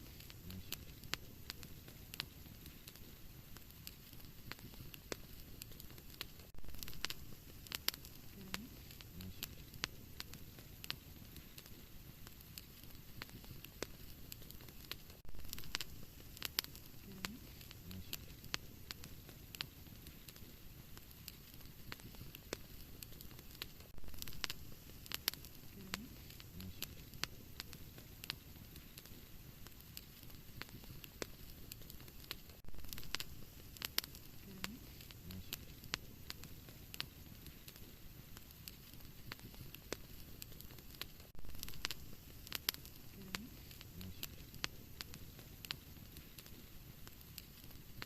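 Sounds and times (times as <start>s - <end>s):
low rumble of flames: 0.0s - 48.0s
wood fire crackling and popping: 0.0s - 48.0s.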